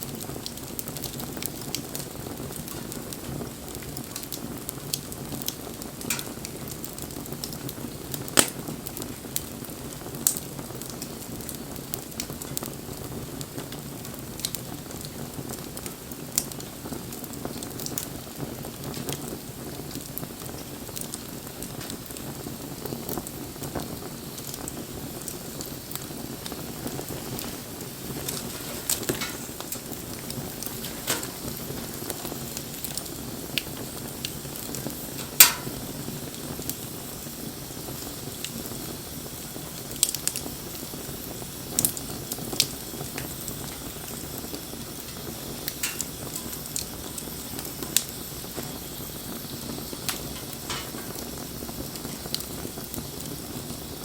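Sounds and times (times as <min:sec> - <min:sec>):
sharp pops of fire: 0:00.0 - 0:54.0
wood fire crackling: 0:00.0 - 0:54.0.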